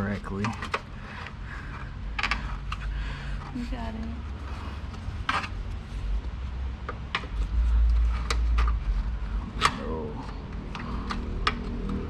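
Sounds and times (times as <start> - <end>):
car parts knocking and clicking: 0.0 - 3.6, 4.3 - 12.0.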